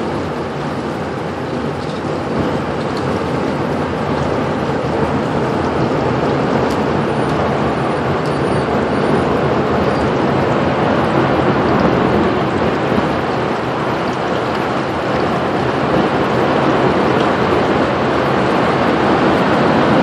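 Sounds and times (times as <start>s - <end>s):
rain: 0.0s - 20.0s
tornado winds rumbling: 0.0s - 20.0s.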